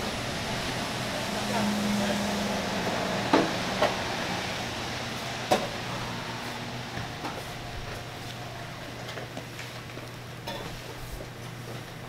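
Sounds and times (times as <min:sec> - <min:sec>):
steady hum: 0:00.0 - 0:11.3.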